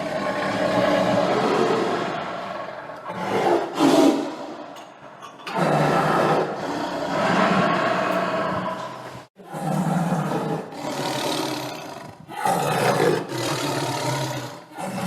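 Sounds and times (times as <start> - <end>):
tiger roaring: 0.0 - 4.7, 5.5 - 15.0.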